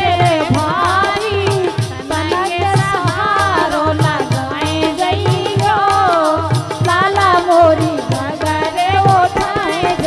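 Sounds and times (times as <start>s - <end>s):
folk drumming: 0.0s - 10.0s.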